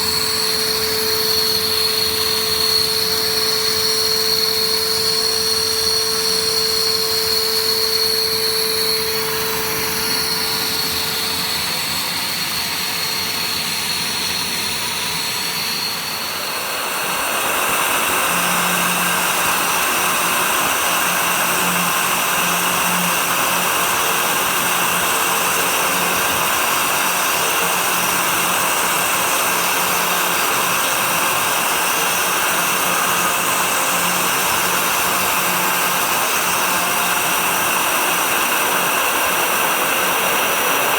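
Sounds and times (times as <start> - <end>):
dust extraction vacuum: 0.0 - 40.9
router milling with high whine: 0.0 - 40.9.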